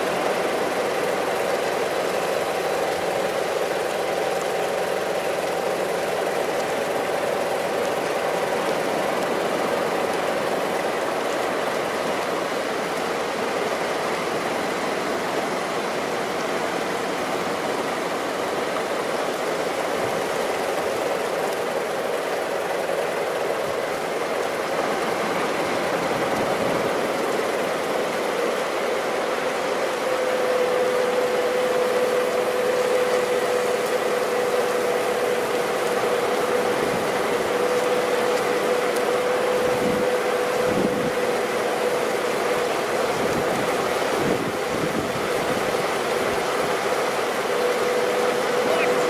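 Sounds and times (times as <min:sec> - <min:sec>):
engine hum: 0:00.0 - 0:49.0.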